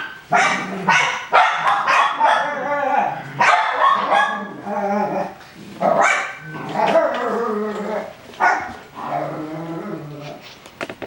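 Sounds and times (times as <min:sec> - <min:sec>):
puppies barking and yapping: 0:00.0 - 0:09.4.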